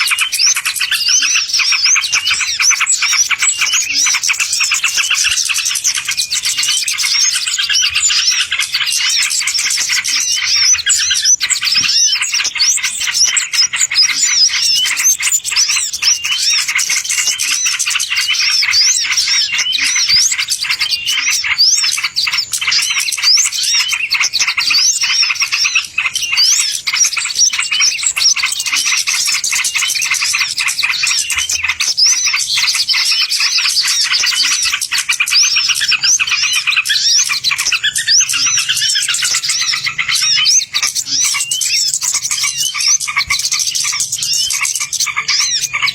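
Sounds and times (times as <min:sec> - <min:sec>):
birds chirping and twittering: 0:00.0 - 0:45.9.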